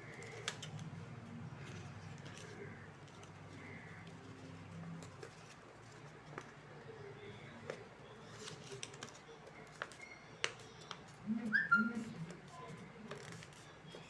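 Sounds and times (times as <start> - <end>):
paper rustling and clicks: 0.0 - 11.2, 12.0 - 14.0.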